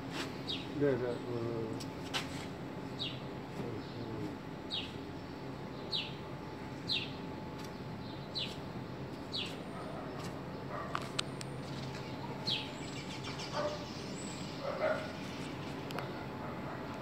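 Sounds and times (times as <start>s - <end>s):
bird chirping: 0.4s - 1.5s, 2.8s - 10.9s, 11.6s - 16.3s.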